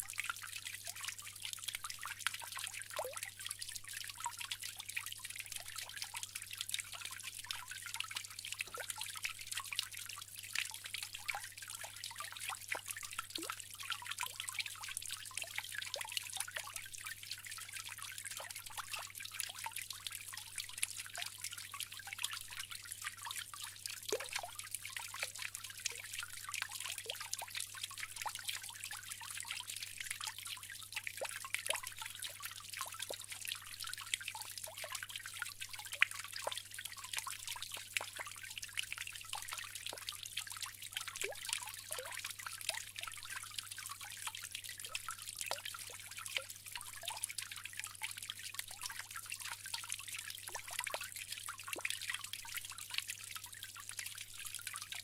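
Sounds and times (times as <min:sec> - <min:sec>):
small drips pattering: 0:00.0 - 0:55.0
water fountain trickling: 0:00.0 - 0:55.0.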